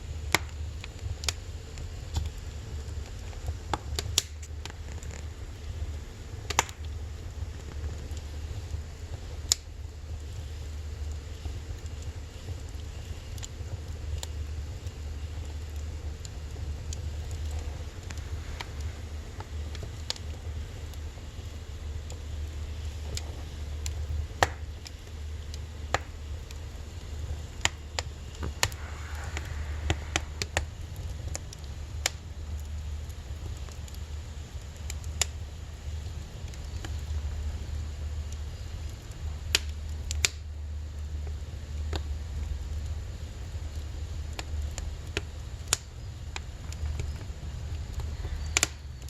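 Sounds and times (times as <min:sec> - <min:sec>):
firewood crackling and popping: 0:00.0 - 0:49.0
steady low rumble: 0:00.0 - 0:49.0.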